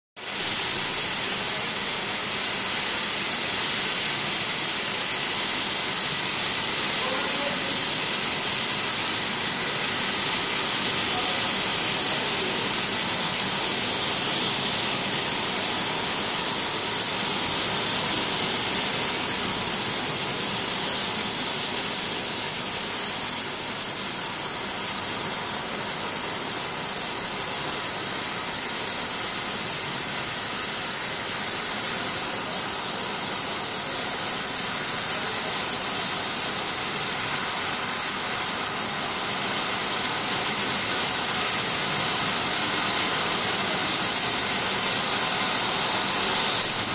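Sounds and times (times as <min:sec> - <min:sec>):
laser cutter hissing: 0:00.3 - 0:46.9.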